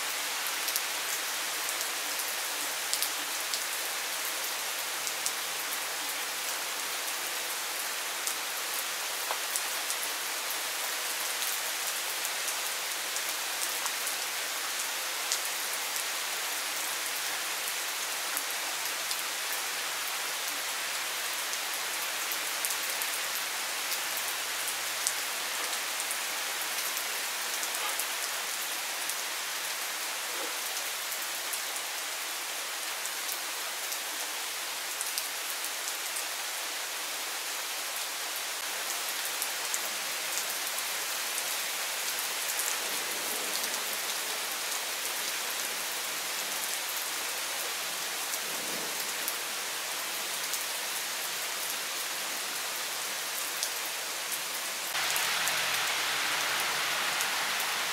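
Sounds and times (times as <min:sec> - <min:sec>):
rain falling on plants: 0:00.0 - 0:57.9.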